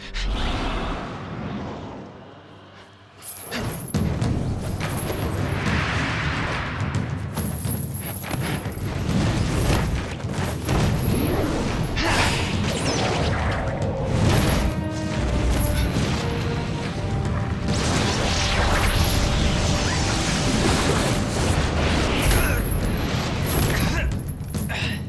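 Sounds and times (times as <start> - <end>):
background music: 1.6 - 25.0.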